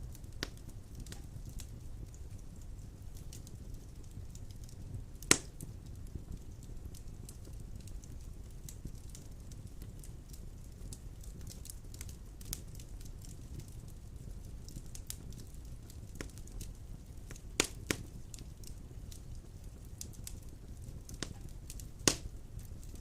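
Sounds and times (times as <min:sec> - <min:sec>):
low rumble of flame: 0:00.0 - 0:23.0
wood fire crackling: 0:00.0 - 0:23.0
sharp fire pops: 0:00.1 - 0:23.0.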